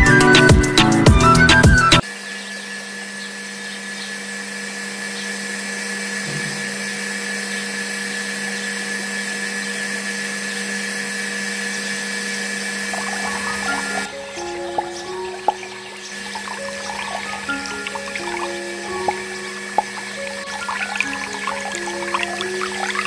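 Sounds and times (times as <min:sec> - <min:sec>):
small electric motor humming: 0:02.0 - 0:23.0.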